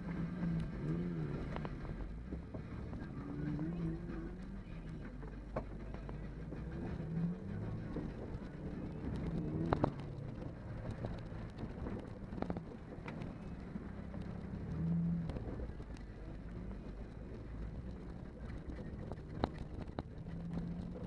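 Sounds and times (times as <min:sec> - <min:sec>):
off-road vehicle engine: 0:00.0 - 0:21.0.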